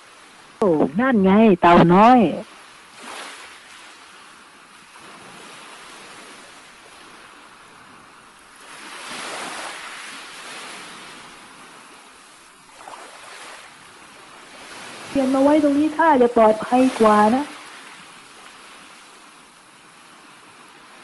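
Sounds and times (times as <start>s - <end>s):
ocean waves washing onto beach: 0.0s - 21.0s.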